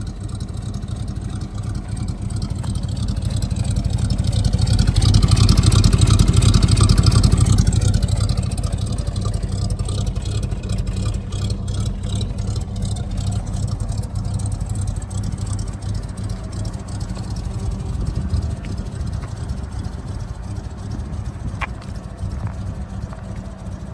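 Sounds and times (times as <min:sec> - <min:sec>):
truck engine idling and revving: 0:00.0 - 0:23.9.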